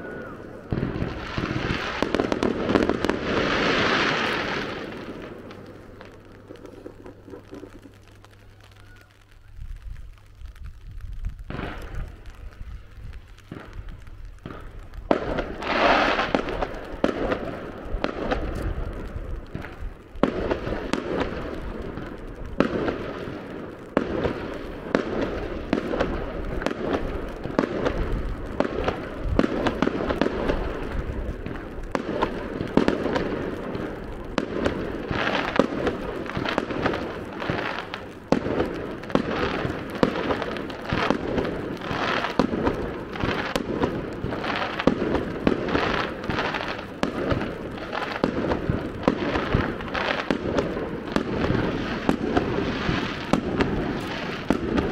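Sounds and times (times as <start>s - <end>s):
fireworks bursting: 0.0s - 54.9s.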